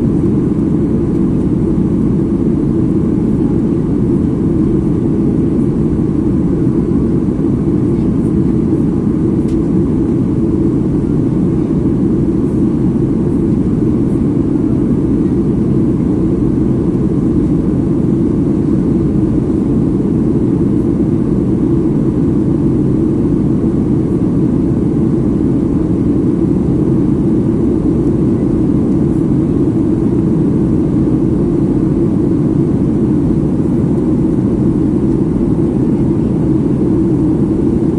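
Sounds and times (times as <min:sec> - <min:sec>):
airplane cabin engine rush: 0:00.0 - 0:37.9.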